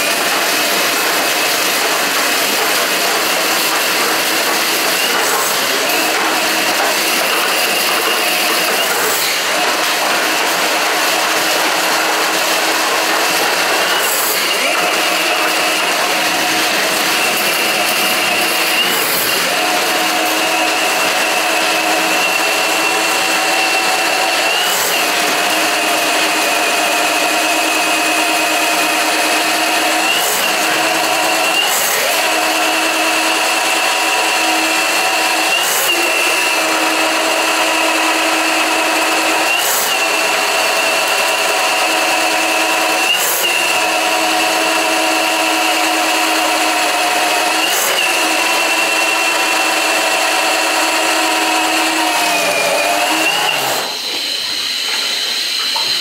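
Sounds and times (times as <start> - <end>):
drain snake motor whine: 0.0 - 56.0.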